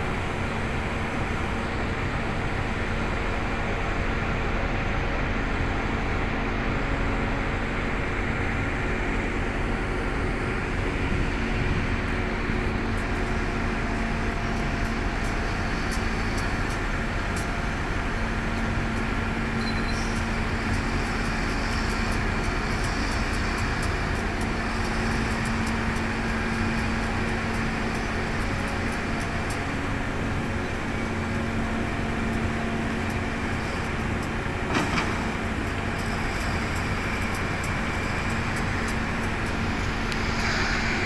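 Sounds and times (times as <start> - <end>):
construction machinery engine running: 0.0 - 41.0.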